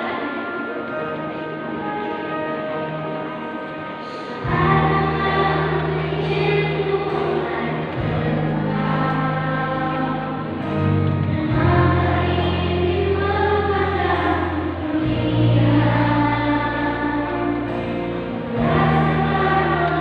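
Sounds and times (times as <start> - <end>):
children's choir singing: 0.0 - 20.0
sustained low accompaniment notes: 0.0 - 20.0.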